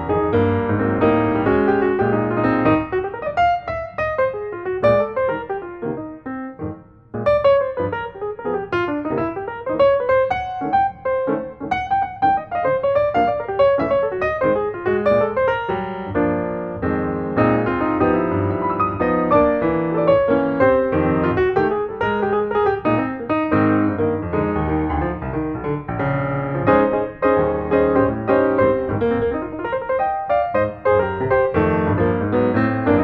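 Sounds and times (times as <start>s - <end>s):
background piano music: 0.0s - 33.0s.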